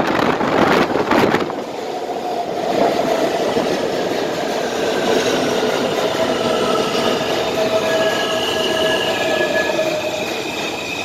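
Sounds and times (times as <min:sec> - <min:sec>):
subway train rumble: 0:00.0 - 0:11.0
train running with steady whine: 0:00.0 - 0:11.0.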